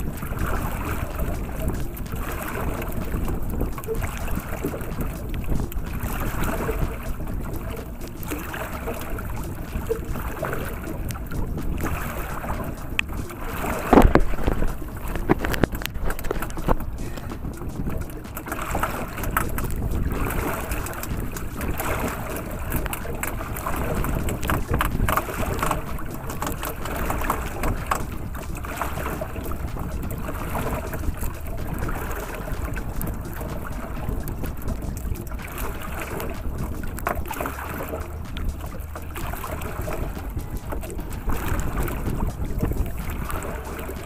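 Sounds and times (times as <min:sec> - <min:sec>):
water lapping against hull: 0:00.0 - 0:44.0
wind on microphone: 0:00.0 - 0:44.0.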